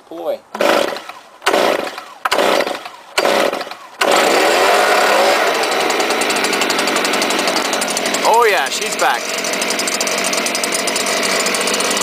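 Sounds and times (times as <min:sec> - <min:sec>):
leaf blower engine pull-started: 0:00.5 - 0:12.0.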